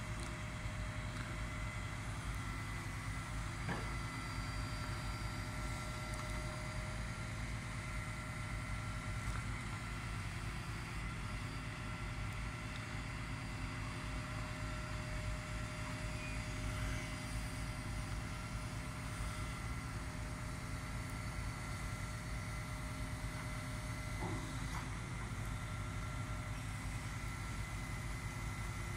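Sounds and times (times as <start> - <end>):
hydraulic whine: 0.0 - 28.9.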